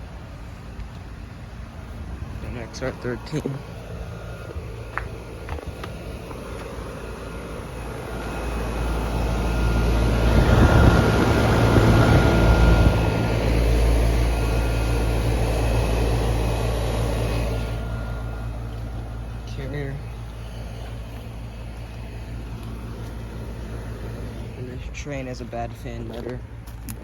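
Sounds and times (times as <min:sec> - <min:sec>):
heat pump fan and compressor: 0:00.0 - 0:27.0.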